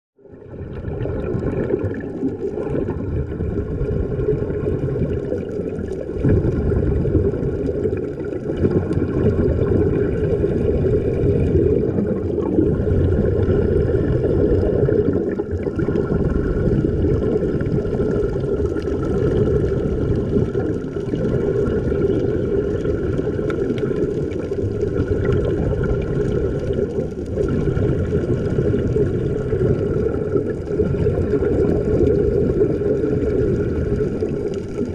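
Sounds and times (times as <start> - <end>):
rumble of moving water: 0.2 - 34.9.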